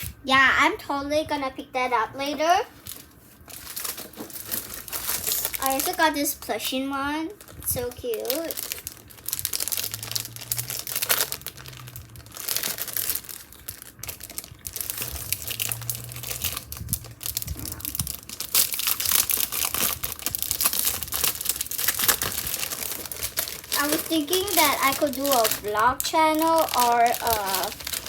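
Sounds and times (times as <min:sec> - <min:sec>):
packaging crinkling and rustling: 0:02.2 - 0:28.0.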